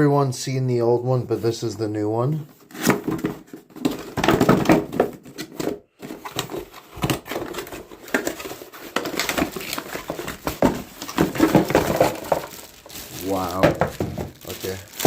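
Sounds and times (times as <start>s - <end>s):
packaging rustling: 2.6s - 15.0s.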